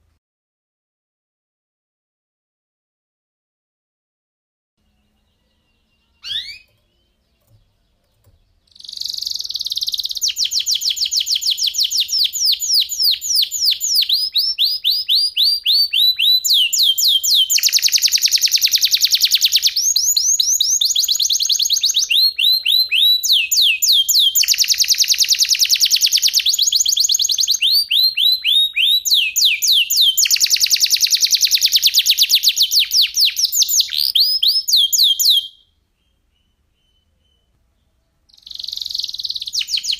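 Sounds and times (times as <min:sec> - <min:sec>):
canary singing trills: 0:04.8 - 0:39.9.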